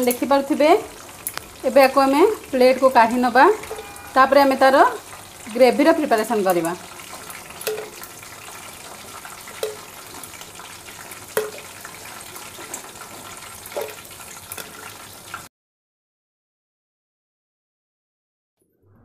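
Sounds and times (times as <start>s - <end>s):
chicken sizzling in hot oil: 0.0s - 15.5s.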